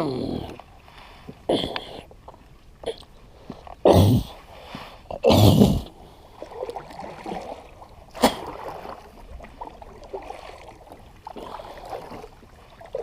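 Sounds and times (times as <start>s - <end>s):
water gurgling and trickling: 0.0s - 13.0s.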